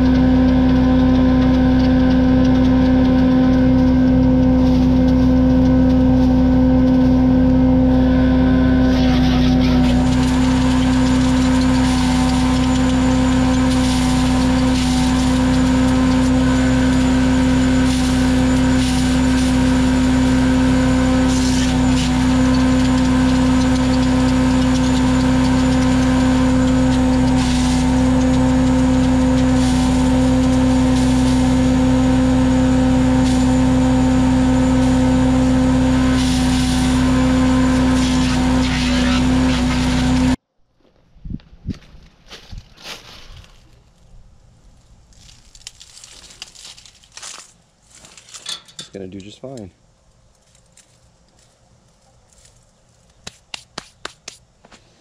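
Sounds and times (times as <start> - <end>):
wood chipper engine running: 0.0 - 40.4, 41.8 - 48.4.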